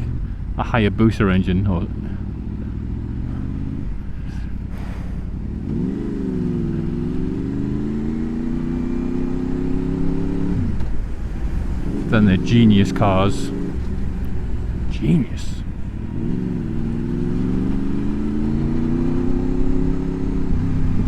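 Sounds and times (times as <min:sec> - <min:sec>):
low wind rumble: 0:00.0 - 0:21.0
motorcycle engine accelerating: 0:00.0 - 0:21.0.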